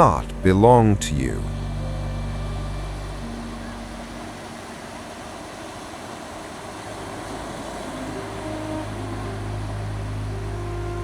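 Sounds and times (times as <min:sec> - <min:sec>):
ocean surf washing on shore: 0:00.0 - 0:11.0.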